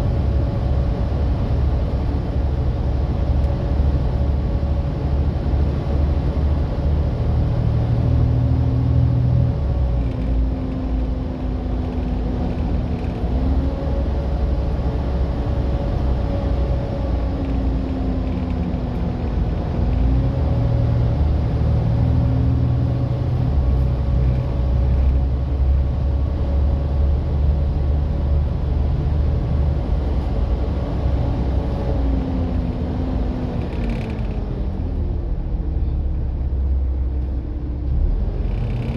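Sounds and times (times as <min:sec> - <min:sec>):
diesel bus engine rumbling: 0:00.0 - 0:38.9.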